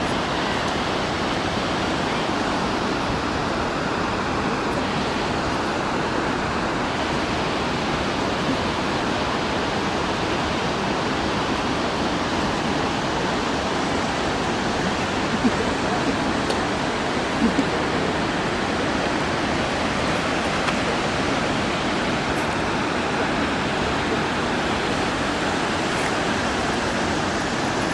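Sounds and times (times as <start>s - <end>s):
waterfall crashing: 0.0s - 27.9s.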